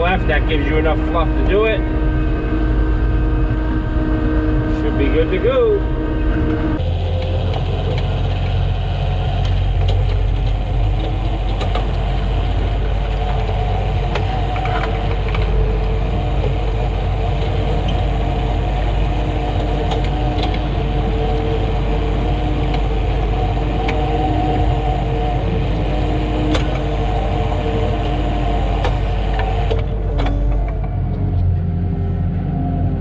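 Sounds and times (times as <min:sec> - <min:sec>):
diesel engine under load: 0:00.0 - 0:33.0.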